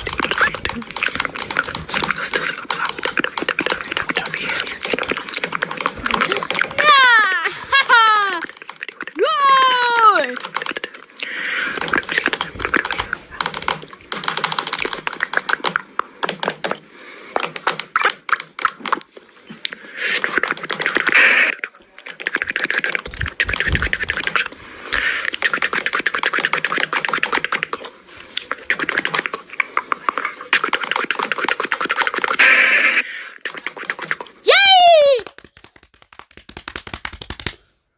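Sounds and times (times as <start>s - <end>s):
beatbox mouth clicks: 0.0s - 6.8s, 10.3s - 34.4s, 35.3s - 37.6s
breathy vocal noises: 0.0s - 14.0s, 18.4s - 35.1s.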